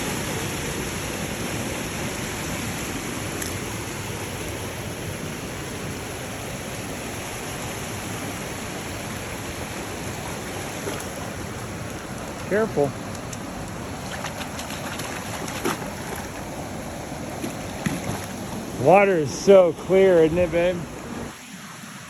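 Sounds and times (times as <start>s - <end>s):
stream rushing over cascades: 0.0s - 22.0s.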